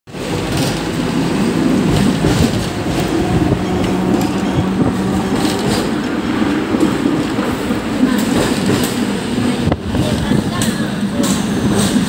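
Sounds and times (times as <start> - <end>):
tram rumble and motor hum: 0.1 - 12.0.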